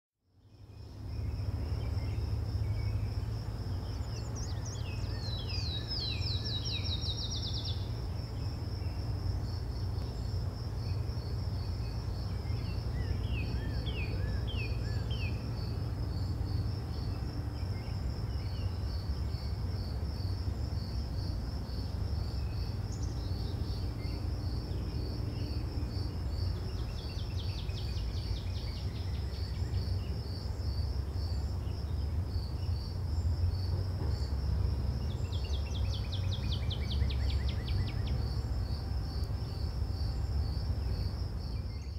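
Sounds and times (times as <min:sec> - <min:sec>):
constant low rumble: 0:00.3 - 0:41.9
insect chirping: 0:00.4 - 0:41.9.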